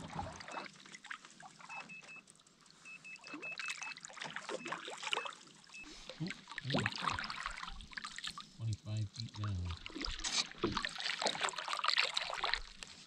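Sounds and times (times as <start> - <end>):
water splashing and lapping: 0.0 - 13.0.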